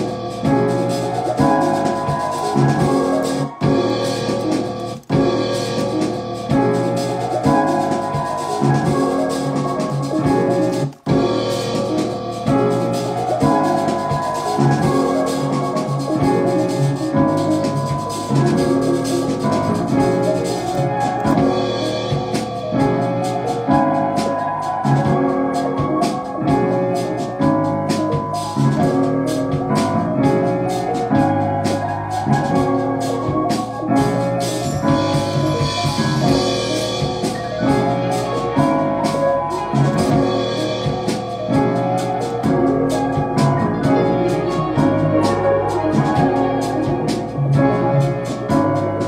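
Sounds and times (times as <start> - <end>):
keyboard-style melody: 0.0 - 49.0
rapid hi-hat ticks: 0.0 - 49.0
trap beat: 0.0 - 49.0.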